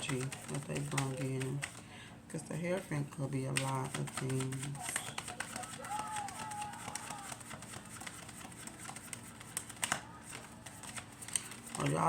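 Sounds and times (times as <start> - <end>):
cards being shuffled: 0.0 - 1.8, 3.4 - 12.0.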